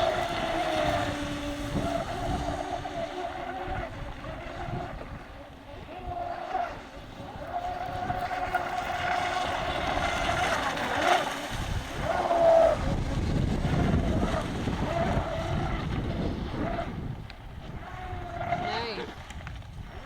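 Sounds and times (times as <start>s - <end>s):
electric boat motor whining: 0.0s - 20.0s.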